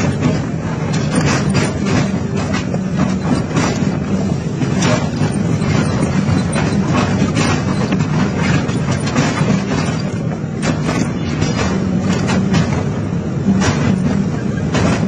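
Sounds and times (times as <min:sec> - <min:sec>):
excavator engine humming: 0:00.0 - 0:15.0
scrap metal crunching and clanking: 0:00.0 - 0:15.0.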